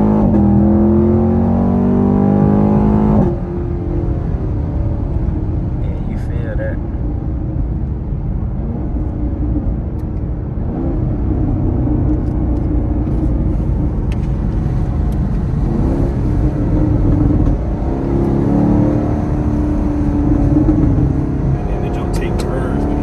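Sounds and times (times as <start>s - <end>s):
car engine rumble from cabin: 0.0s - 23.0s
road noise: 0.0s - 23.0s.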